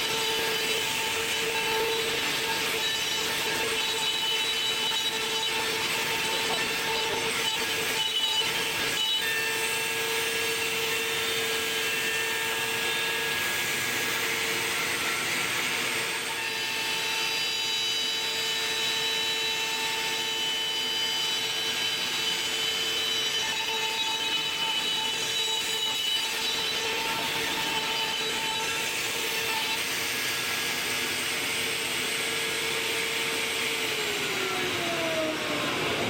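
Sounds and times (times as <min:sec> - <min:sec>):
router bit cutting wood hiss: 0:00.0 - 0:36.0
router spindle whining: 0:00.0 - 0:36.0.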